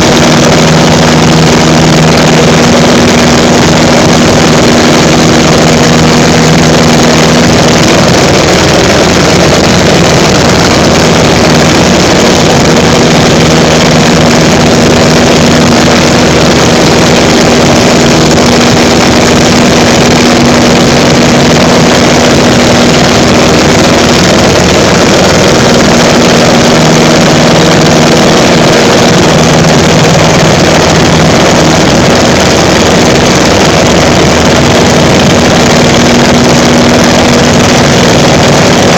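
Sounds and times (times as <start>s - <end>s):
propeller aircraft engine running: 0.0s - 38.9s.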